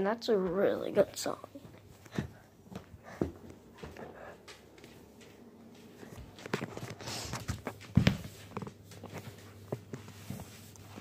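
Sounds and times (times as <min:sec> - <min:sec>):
footsteps: 0:00.4 - 0:11.0.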